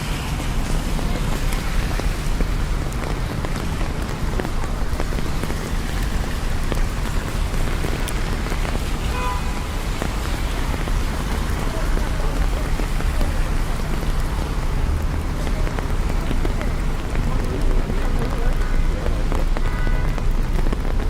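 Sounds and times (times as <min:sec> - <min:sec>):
low rumble of traffic: 0:00.0 - 0:21.0
steady rain on streets: 0:00.0 - 0:21.0.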